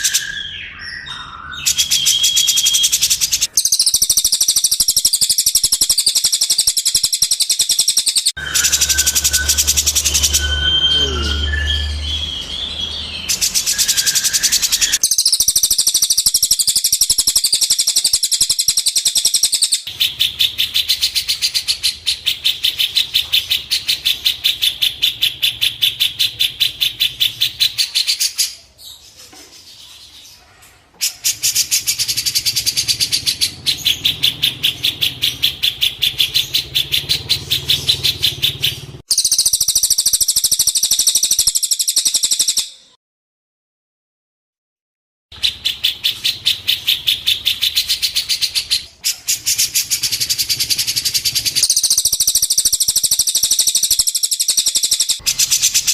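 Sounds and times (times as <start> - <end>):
songbird singing high chirps: 0.0 - 28.6, 31.3 - 42.9, 45.4 - 55.9.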